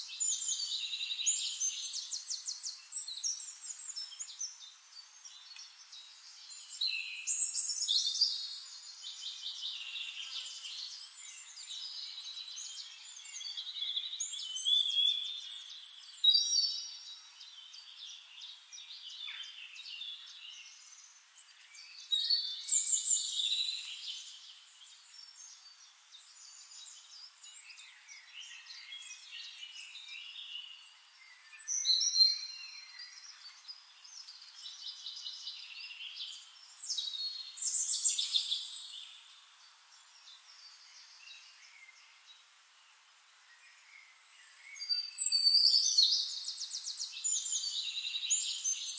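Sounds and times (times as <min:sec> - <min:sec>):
birds chirping and singing: 0:00.0 - 0:42.4, 0:43.5 - 0:48.9.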